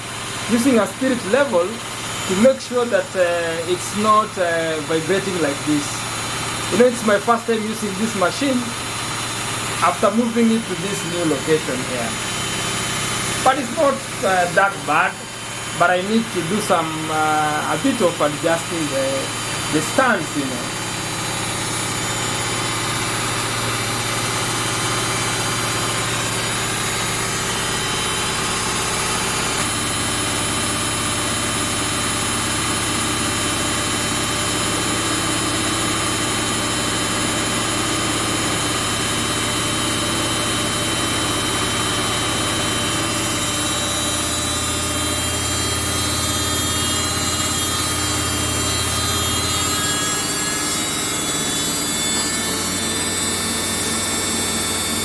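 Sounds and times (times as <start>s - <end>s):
washing machine drum spinning: 0.0s - 55.0s.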